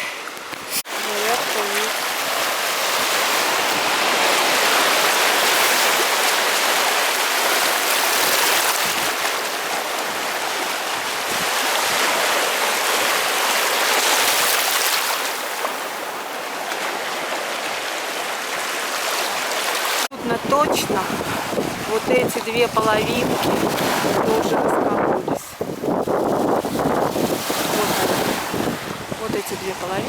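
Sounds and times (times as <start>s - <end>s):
sea water washing over stones: 0.2s - 20.1s, 20.9s - 30.0s.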